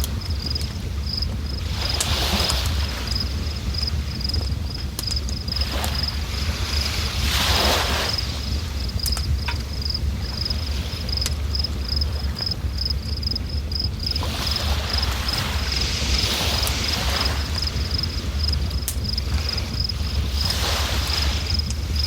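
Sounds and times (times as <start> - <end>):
insect chirping: 0.0 - 22.0
running water with low rumble: 0.0 - 22.0.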